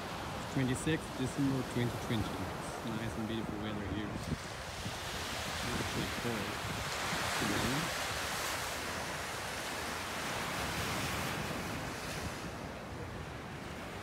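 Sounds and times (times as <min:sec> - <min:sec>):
small waves breaking on beach: 0:00.0 - 0:14.0.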